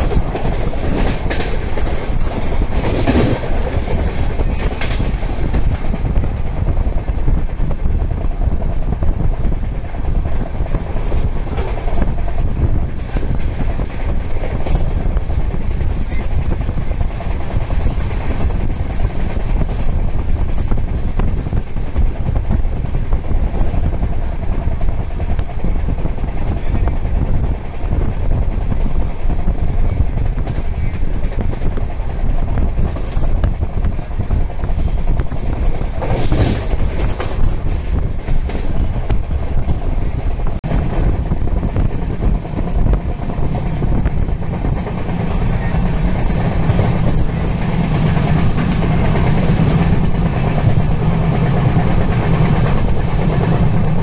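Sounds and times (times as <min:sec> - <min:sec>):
train coach rumbling on track: 0:00.0 - 0:54.0.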